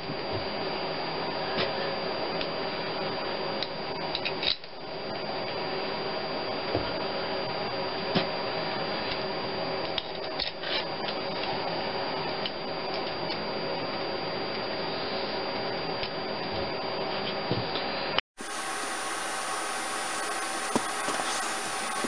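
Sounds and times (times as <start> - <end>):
steady workshop hum: 0.0 - 22.0.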